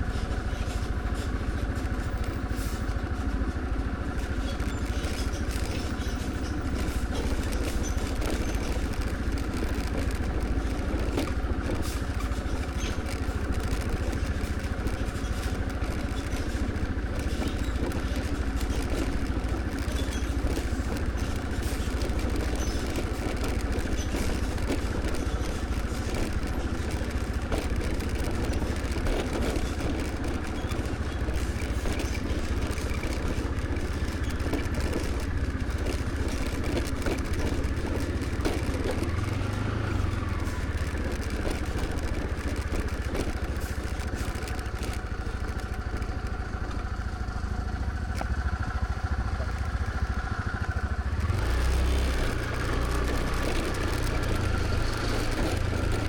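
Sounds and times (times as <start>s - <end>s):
road and wind noise: 0.0s - 56.0s
scooter engine running: 0.0s - 56.0s.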